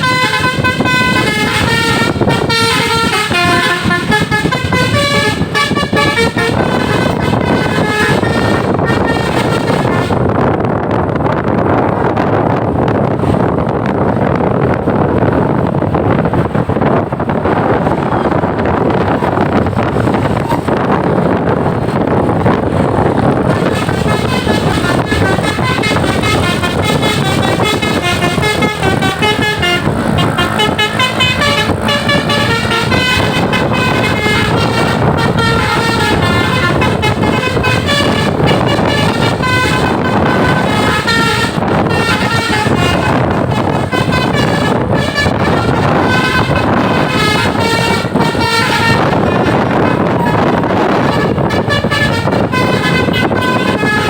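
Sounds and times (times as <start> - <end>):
bus musical horn tune: 0.0 - 11.0, 13.3 - 54.0
bus engine: 0.0 - 54.0
rushing road noise: 0.0 - 54.0.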